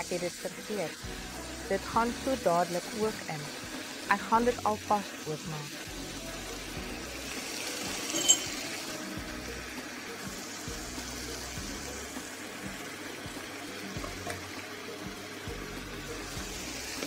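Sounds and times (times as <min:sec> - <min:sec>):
prawns sizzling in a frying pan: 0:00.0 - 0:17.0.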